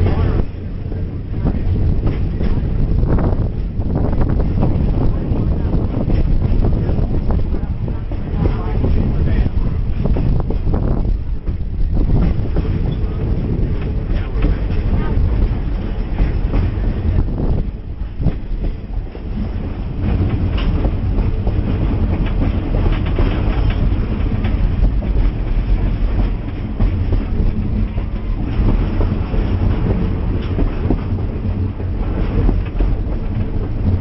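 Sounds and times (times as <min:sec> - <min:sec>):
train rumbling: 0:00.0 - 0:34.0
wheels clacking over rails: 0:00.0 - 0:34.0.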